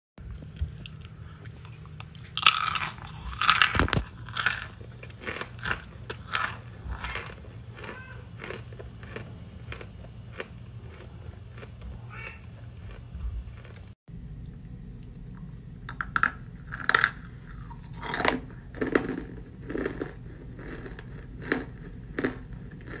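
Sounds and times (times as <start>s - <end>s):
person chewing: 0.2s - 14.0s, 16.6s - 23.0s
loud crunches: 1.6s - 14.0s, 16.8s - 23.0s.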